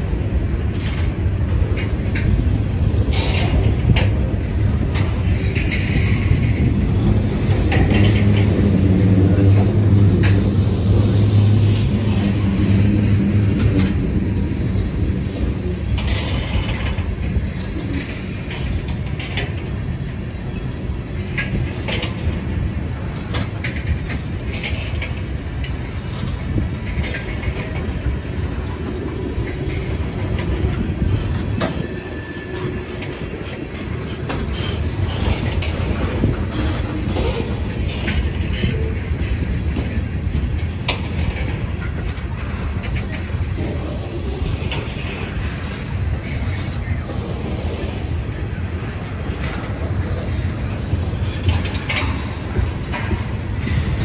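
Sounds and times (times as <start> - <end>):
diesel locomotive engine droning: 0.0 - 54.0
train cars rolling: 0.0 - 54.0
wheels clicking over rail joints: 0.0 - 54.0.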